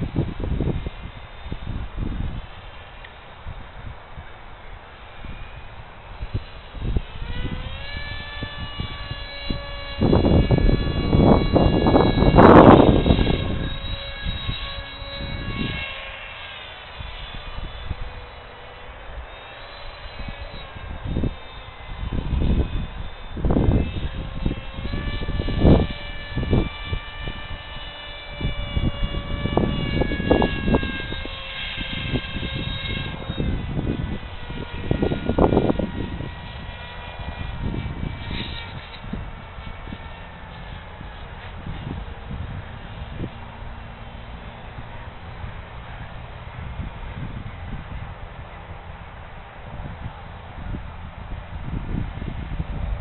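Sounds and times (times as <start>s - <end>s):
electric motor propeller whine: 0.0s - 53.0s
wind buffeting on microphone: 0.0s - 53.0s.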